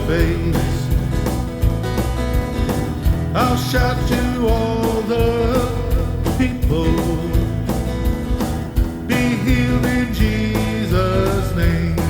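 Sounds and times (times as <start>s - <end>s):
steady drum beat: 0.0s - 12.0s
worship band playing: 0.0s - 12.0s.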